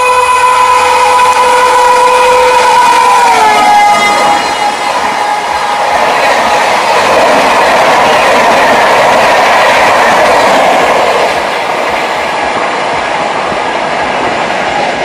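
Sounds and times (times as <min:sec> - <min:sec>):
train coaches rushing past: 0:00.0 - 0:15.0.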